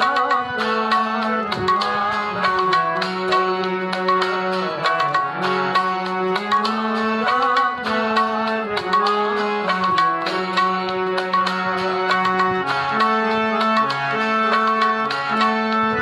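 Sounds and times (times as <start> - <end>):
harmonium melody: 0.0 - 16.0
tabla rhythm: 0.0 - 16.0.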